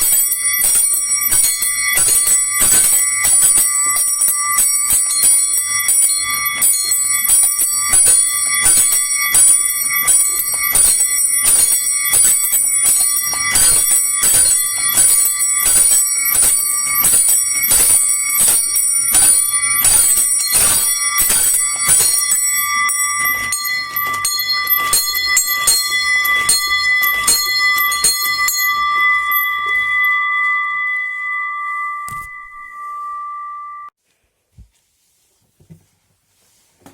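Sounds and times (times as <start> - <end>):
small bells chiming rapidly: 0.0 - 33.9.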